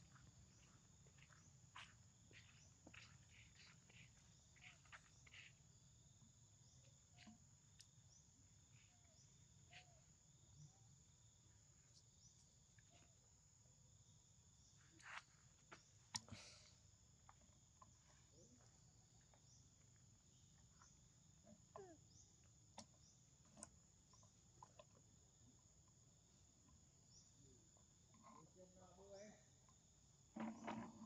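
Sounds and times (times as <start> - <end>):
faint high insect drone: 0.0 - 31.0.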